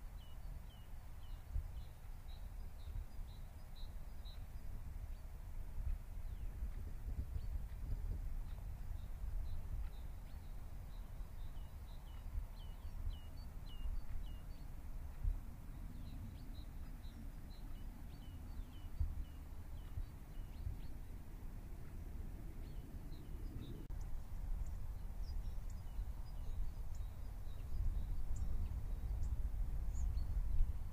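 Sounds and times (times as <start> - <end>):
low background noise: 0.0 - 30.9
small birds chirping: 0.0 - 30.9.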